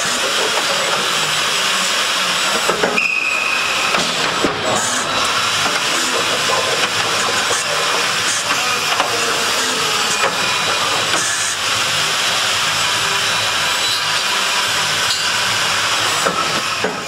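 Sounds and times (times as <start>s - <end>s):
machine hissing: 0.0s - 17.0s.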